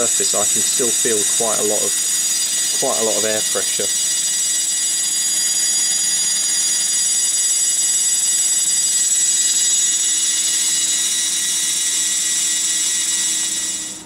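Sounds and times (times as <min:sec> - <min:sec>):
hard drive high-pitched whine: 0:00.0 - 0:14.0.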